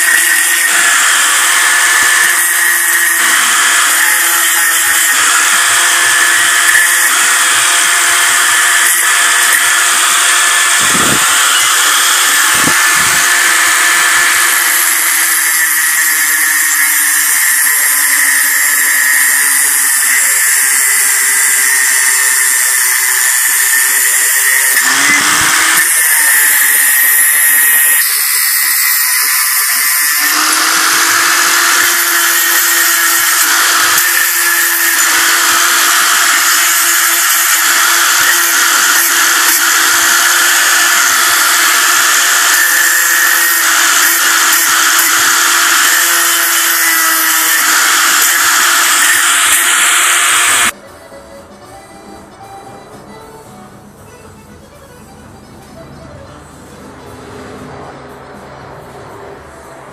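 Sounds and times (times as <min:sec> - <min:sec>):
angle grinder grinding metal: 0:00.0 - 0:50.8
grinder motor whine: 0:00.0 - 0:50.8.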